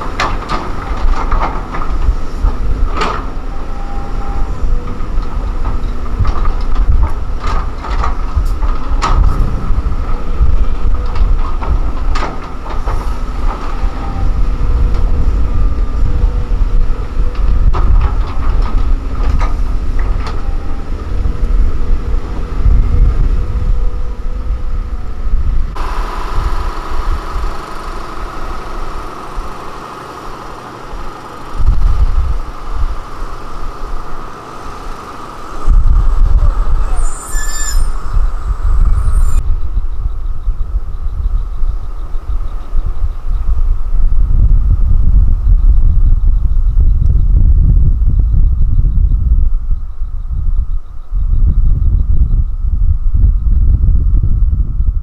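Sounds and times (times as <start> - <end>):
dump truck driving on dirt road: 0.0 - 55.0
motor grader engine running: 0.0 - 55.0.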